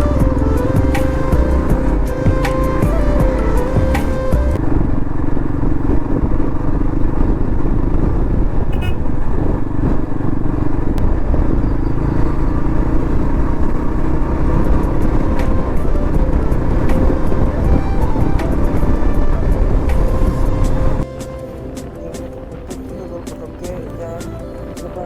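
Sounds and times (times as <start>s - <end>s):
motorcycle engine drone: 0.0s - 25.0s
wind rush on microphone: 0.0s - 25.0s.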